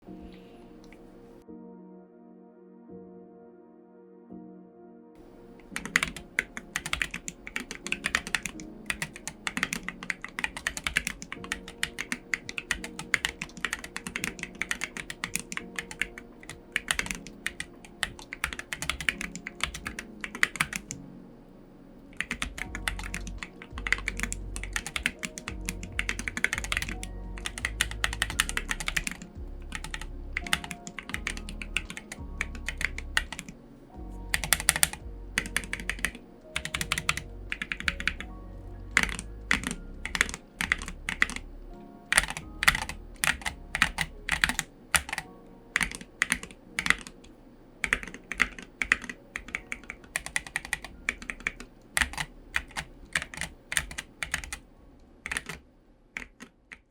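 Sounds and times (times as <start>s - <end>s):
faint background music: 0.0s - 56.9s
mechanical keyboard typing: 5.6s - 21.0s, 22.1s - 33.6s, 34.3s - 38.3s, 38.9s - 41.5s, 42.1s - 54.6s, 55.2s - 55.6s, 56.2s - 56.9s.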